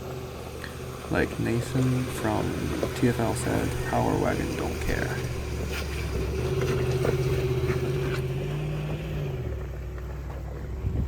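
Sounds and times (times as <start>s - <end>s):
truck engine climbing: 0.0s - 11.0s.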